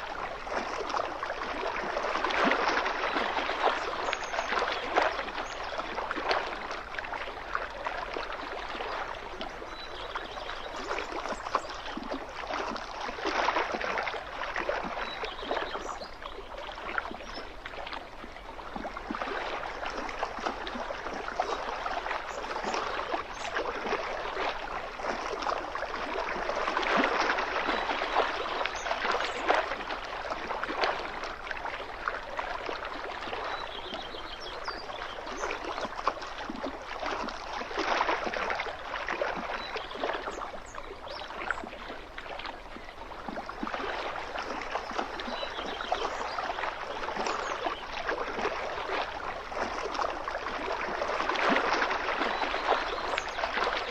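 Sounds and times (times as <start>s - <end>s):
small waves lapping at shore: 0.0s - 53.9s.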